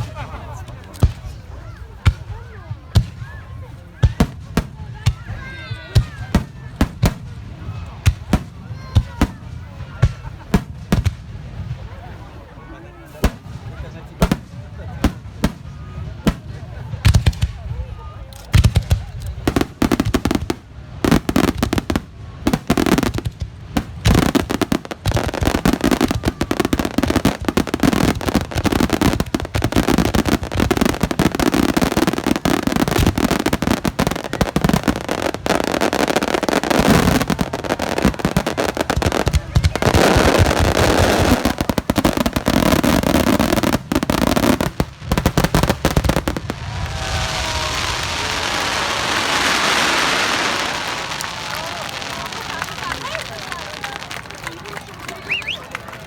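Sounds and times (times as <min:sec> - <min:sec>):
fireworks bursting: 0:00.0 - 0:55.9.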